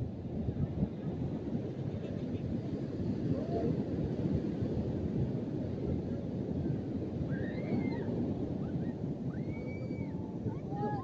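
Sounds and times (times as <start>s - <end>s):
beach surf: 0.0s - 11.0s
wind buffeting microphone: 0.0s - 11.0s.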